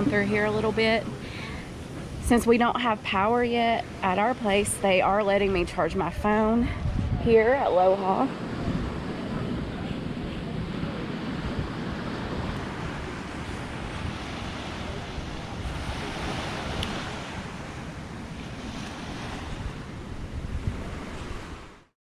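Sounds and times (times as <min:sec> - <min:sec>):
ocean surf washing ashore: 0:00.0 - 0:21.9
wind buffeting microphone: 0:00.0 - 0:21.9.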